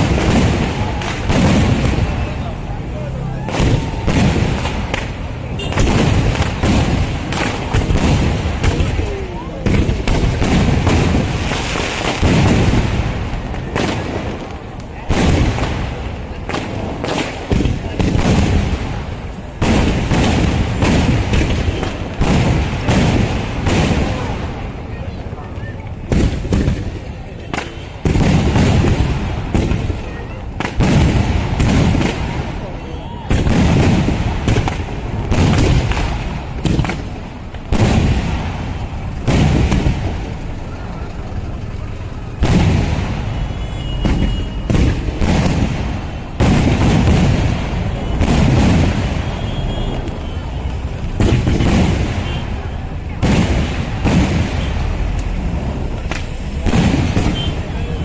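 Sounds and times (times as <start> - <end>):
fireworks blasts with rumbling echo: 0.0 - 58.0.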